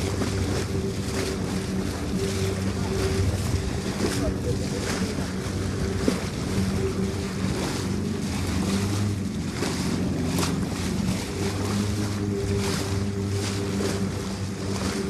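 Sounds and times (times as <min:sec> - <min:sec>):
boat motor running: 0:00.0 - 0:15.0
water splashing against hull: 0:00.0 - 0:15.0
wind on microphone: 0:00.0 - 0:15.0.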